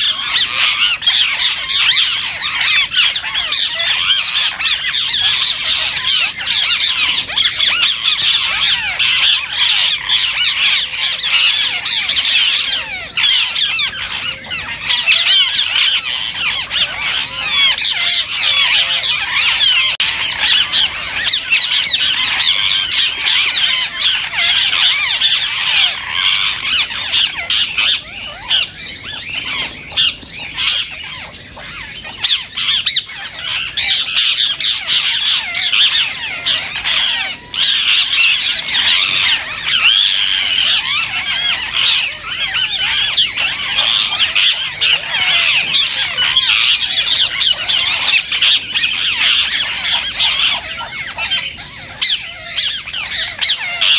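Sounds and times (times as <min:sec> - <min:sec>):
flock of parakeets screeching: 0:00.0 - 0:53.9.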